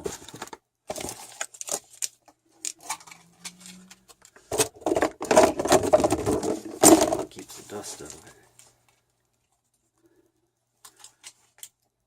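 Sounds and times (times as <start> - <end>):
plastic and straps clicking: 0.0 - 10.0.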